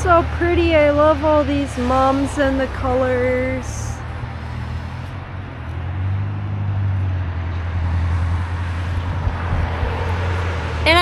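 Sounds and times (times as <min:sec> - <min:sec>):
road traffic noise: 0:00.0 - 0:11.0
vehicle engine running: 0:00.0 - 0:11.0.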